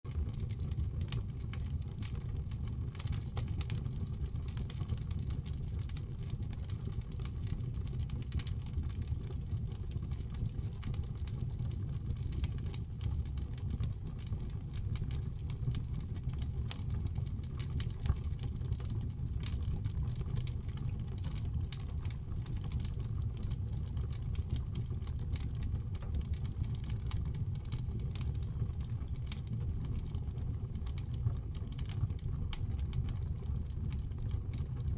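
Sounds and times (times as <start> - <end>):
fire crackling and popping: 0.1 - 34.9
fire rumbling in fireplace: 0.1 - 34.9.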